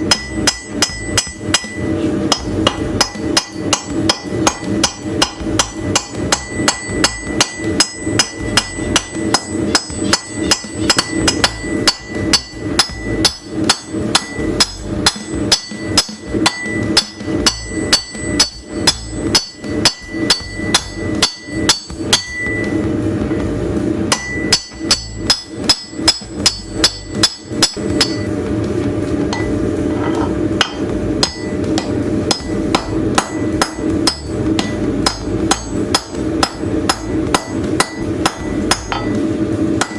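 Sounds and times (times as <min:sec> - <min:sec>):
hammer ringing on anvil: 0:00.0 - 0:23.5, 0:24.1 - 0:28.4, 0:29.3 - 0:39.9
steady low hum: 0:00.0 - 0:39.9.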